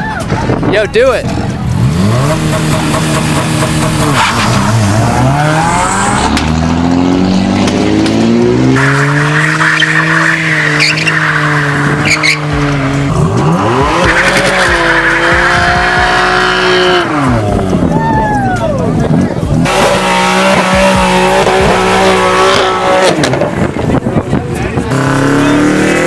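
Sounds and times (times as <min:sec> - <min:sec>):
car engine revving: 0:01.2 - 0:18.0, 0:18.9 - 0:26.0.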